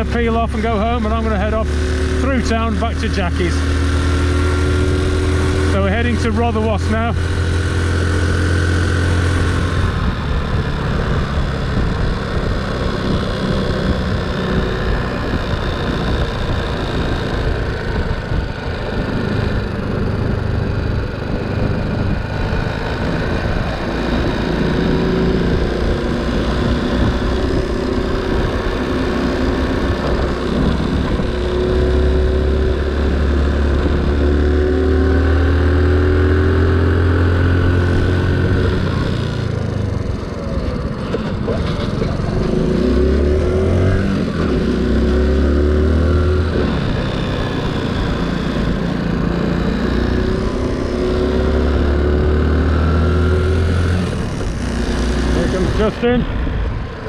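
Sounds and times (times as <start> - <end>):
small motorcycle engine riding: 0.0 - 57.0.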